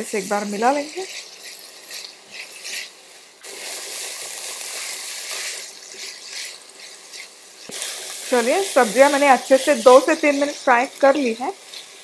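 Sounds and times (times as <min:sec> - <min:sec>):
spatula stirring and scraping: 0:00.0 - 0:12.0
vegetables sizzling in hot oil: 0:00.0 - 0:12.0.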